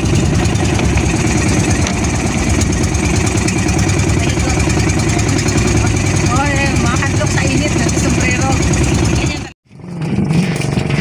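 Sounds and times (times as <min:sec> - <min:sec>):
boat engine chugging: 0:00.0 - 0:11.0.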